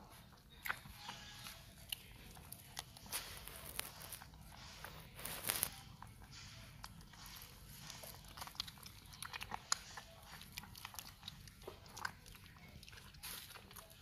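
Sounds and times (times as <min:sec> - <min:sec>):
puppies suckling: 0:00.0 - 0:14.0.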